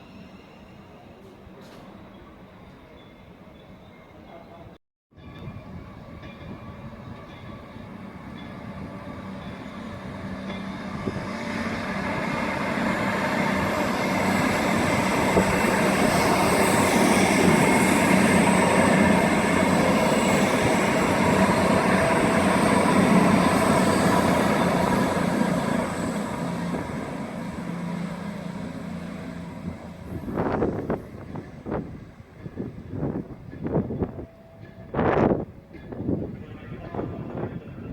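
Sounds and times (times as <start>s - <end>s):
train rumble passing: 5.2s - 37.9s.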